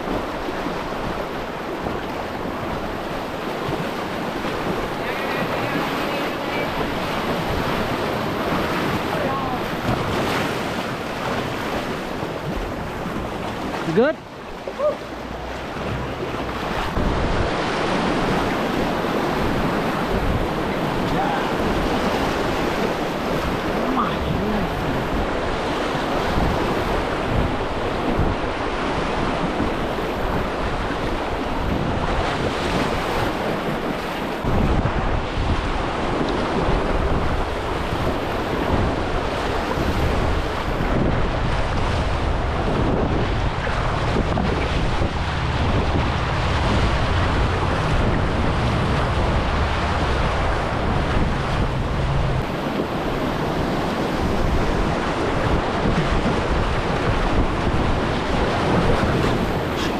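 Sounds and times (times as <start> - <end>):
river rapids rushing: 0.0 - 59.9
wind buffeting microphone: 0.0 - 59.9.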